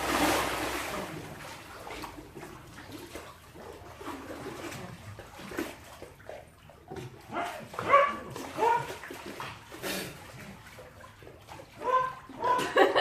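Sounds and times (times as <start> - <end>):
water sloshing and dripping: 0.0 - 13.0
water splashing: 0.0 - 13.0.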